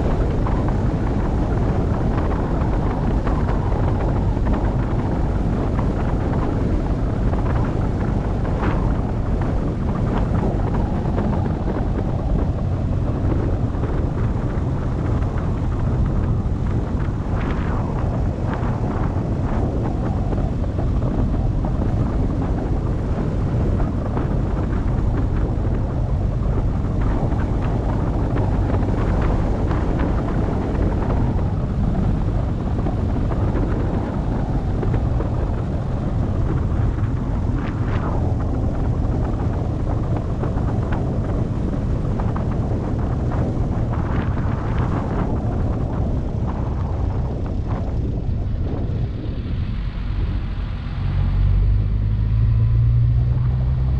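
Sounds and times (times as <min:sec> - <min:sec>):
car driving on a road: 0:00.0 - 0:53.9.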